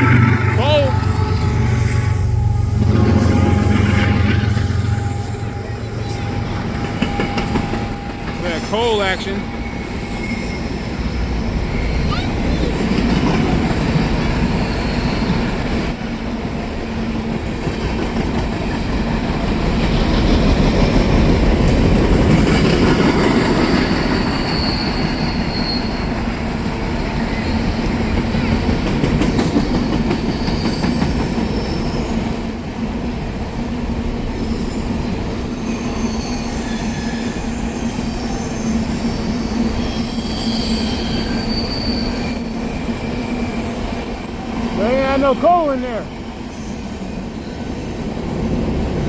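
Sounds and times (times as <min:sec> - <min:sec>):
high-pitched wheel squeal: 0:00.0 - 0:17.3, 0:23.5 - 0:26.3, 0:29.1 - 0:49.0
freight train wheels rumbling: 0:00.0 - 0:49.0.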